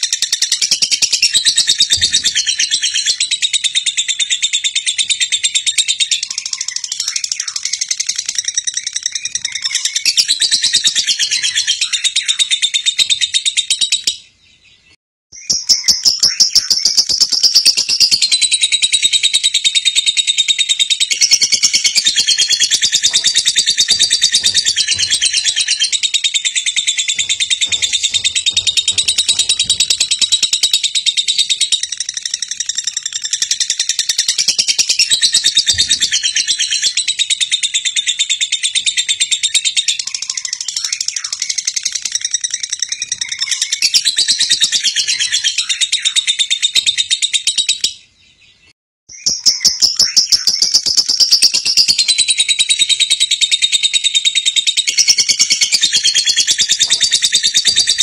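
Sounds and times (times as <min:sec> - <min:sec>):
birds chirping rapidly: 0:00.0 - 0:58.0.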